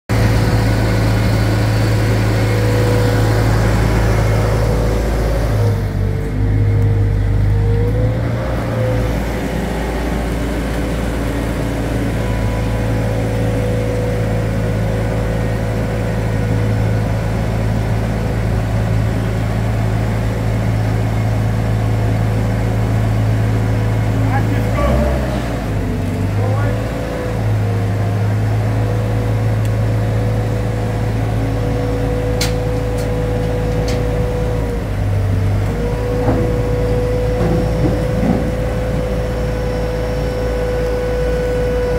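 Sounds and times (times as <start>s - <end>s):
forklift engine running: 0.1s - 41.9s.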